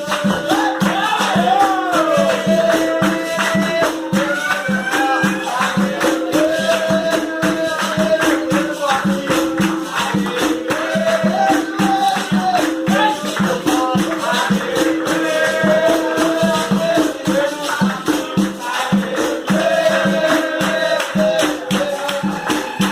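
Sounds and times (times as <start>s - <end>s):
person singing: 0.0s - 22.9s
shaker rattle: 0.0s - 22.9s
tambourine rhythm: 0.0s - 22.9s.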